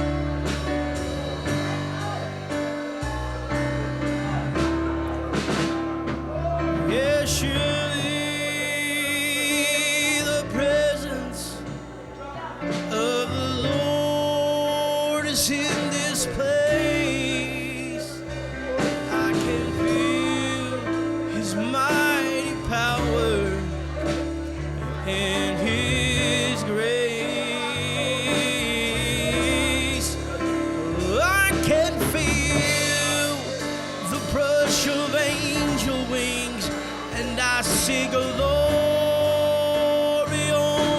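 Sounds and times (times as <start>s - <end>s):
bass: 0.0s - 40.9s
guitar: 0.0s - 40.9s
keyboard held chords: 0.0s - 40.9s
person singing: 0.0s - 40.9s.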